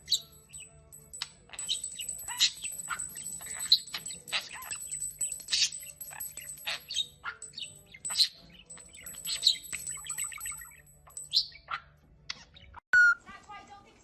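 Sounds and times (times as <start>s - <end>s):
pet bird chirping: 0.0s - 13.2s.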